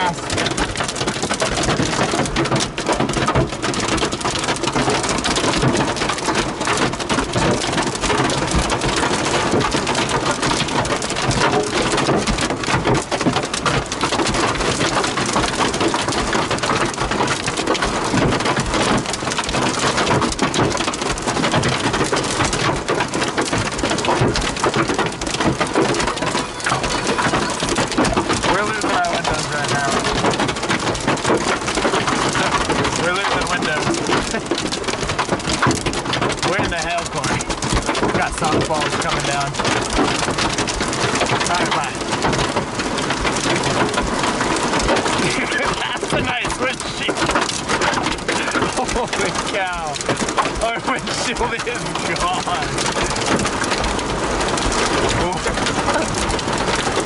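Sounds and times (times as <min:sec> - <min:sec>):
hail and rain hitting a vehicle: 0:00.0 - 0:57.0.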